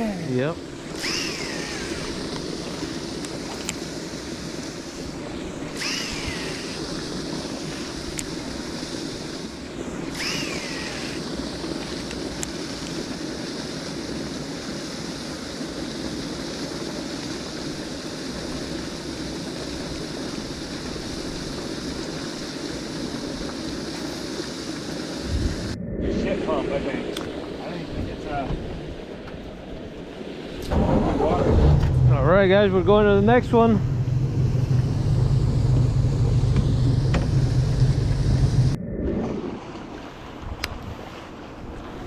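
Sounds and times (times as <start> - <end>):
water rushing: 0.0 - 42.0
wind on microphone: 0.0 - 42.0.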